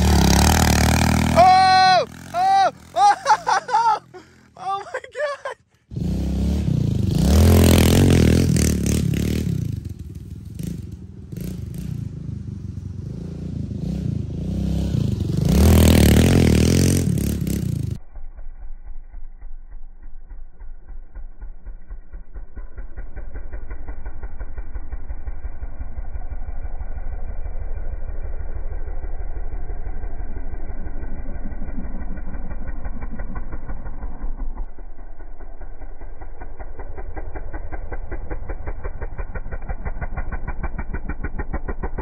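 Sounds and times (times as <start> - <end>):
dirt bike engine running: 0.0 - 42.0.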